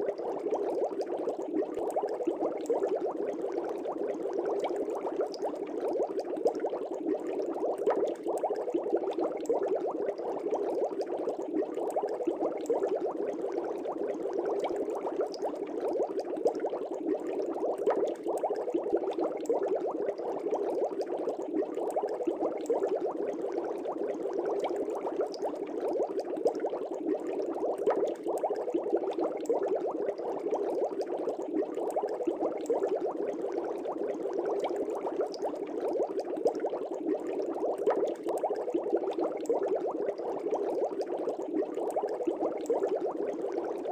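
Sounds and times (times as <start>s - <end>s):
air bubbling in aquarium water: 0.0s - 43.9s.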